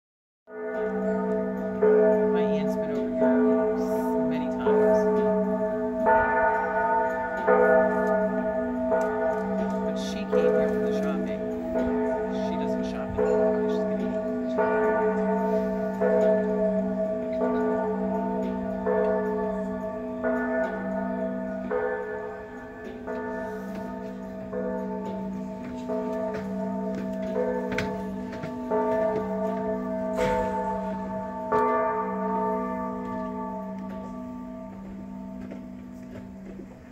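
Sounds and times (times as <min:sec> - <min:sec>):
church bells ringing: 0:00.5 - 0:36.9.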